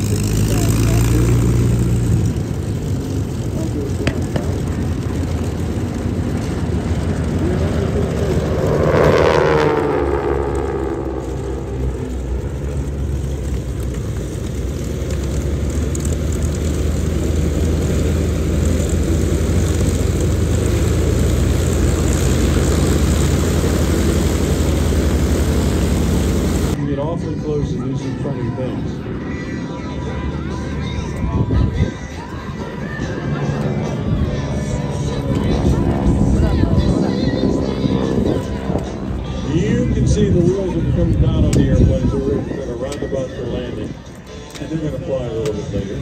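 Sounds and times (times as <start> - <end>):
propeller planes droning overhead: 0.0 - 46.0.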